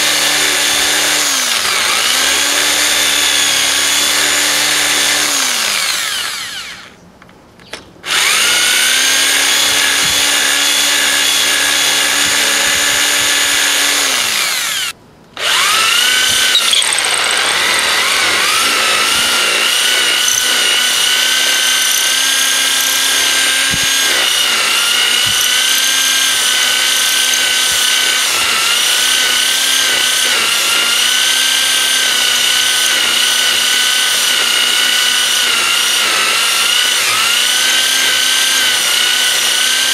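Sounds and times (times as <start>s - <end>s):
electric drill grinding metal: 0.0s - 7.0s, 8.0s - 39.9s.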